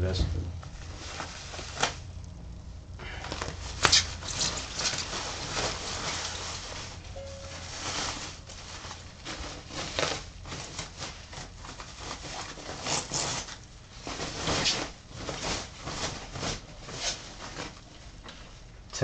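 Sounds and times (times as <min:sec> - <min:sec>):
plastic wrapping rustling: 0:00.6 - 0:18.8.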